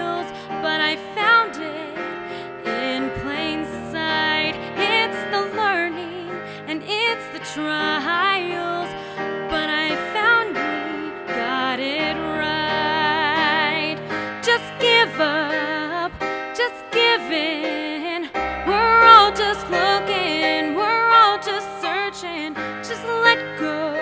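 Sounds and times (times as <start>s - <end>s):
electric keyboard piano: 0.0s - 24.0s
woman singing with vibrato: 0.0s - 24.0s.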